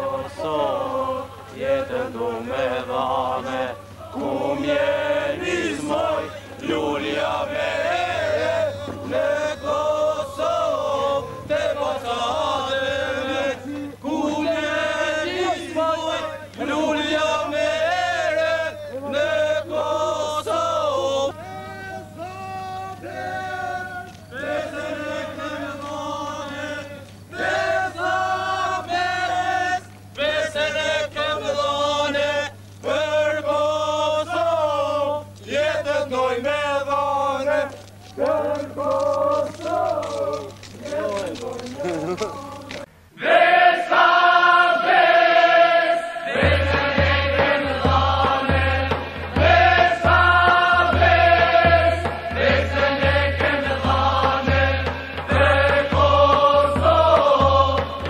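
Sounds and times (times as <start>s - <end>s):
men singing together: 0.0s - 58.0s.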